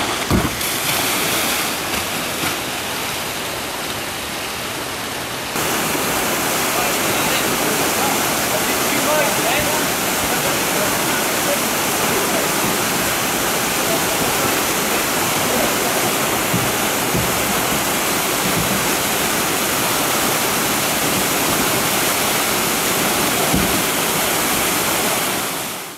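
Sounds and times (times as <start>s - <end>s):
white water rushing over rocks: 0.0s - 25.9s.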